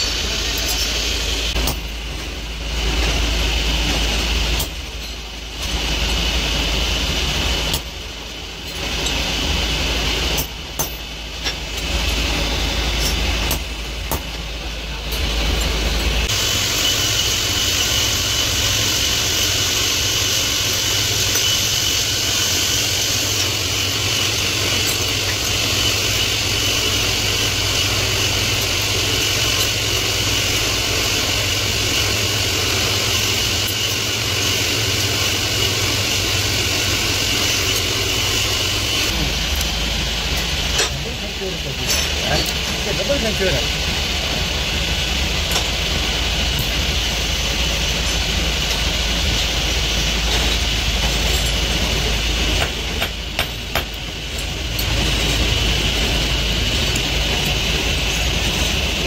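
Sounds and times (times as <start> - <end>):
drill press cutting steel: 0.0 - 59.0.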